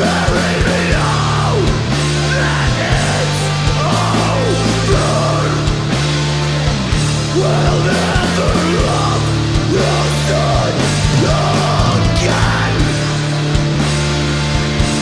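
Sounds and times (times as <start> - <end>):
heavy metal band music: 0.0 - 15.0.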